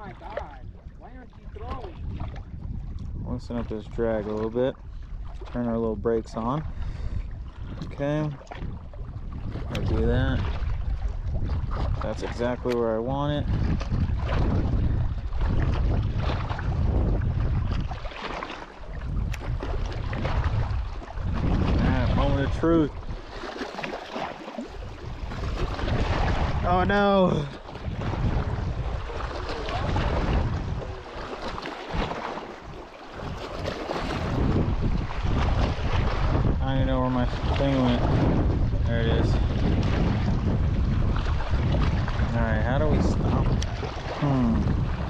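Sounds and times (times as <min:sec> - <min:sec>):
small waves lapping: 0:00.0 - 0:45.0
wind buffeting microphone: 0:00.0 - 0:45.0.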